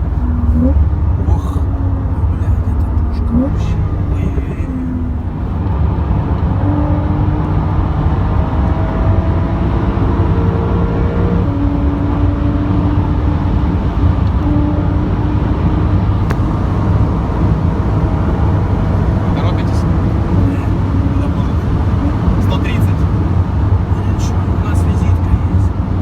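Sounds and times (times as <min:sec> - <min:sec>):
car engine rumble: 0:00.0 - 0:26.0.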